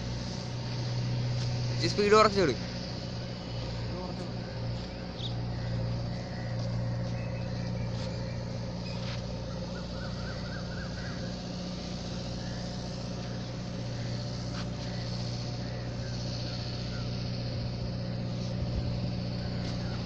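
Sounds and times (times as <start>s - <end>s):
low motor drone: 0.0s - 20.0s.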